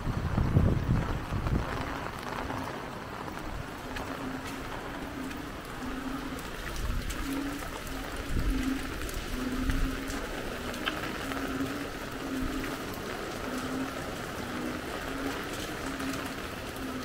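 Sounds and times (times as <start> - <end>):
floodwater sloshing and trickling: 1.6 - 17.0.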